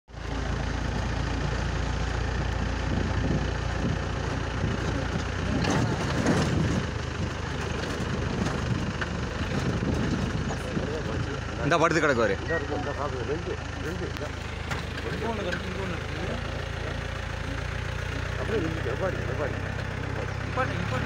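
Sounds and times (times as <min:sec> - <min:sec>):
vehicle engine humming: 0:00.1 - 0:21.0.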